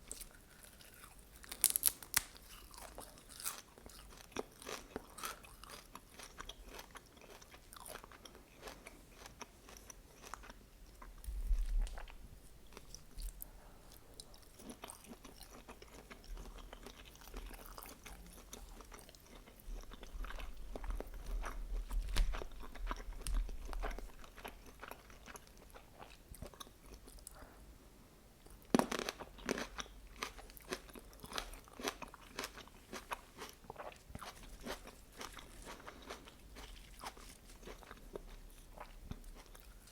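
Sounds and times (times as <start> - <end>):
person chewing and biting food: 0.0 - 27.3, 28.7 - 39.9.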